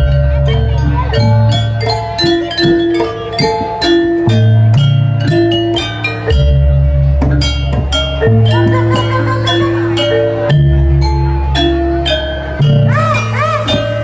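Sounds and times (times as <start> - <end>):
deep bass notes: 0.0 - 14.0
metal mallet percussion melody: 0.0 - 14.0.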